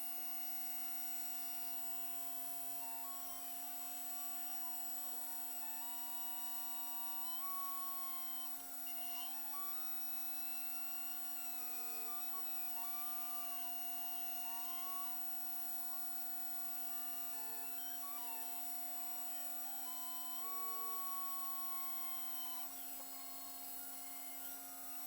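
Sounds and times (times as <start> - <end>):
machine spindle hum: 0.1 - 25.0
motor whine changing pitch: 2.6 - 24.5.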